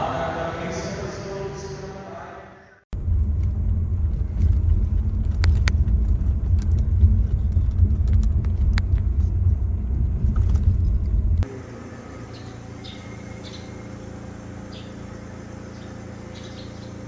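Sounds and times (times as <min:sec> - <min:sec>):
car road rumble: 0:02.9 - 0:17.0.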